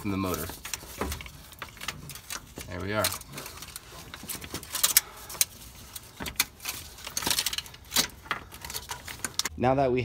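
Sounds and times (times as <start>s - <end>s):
metal clicks and clunks: 0.1s - 9.5s.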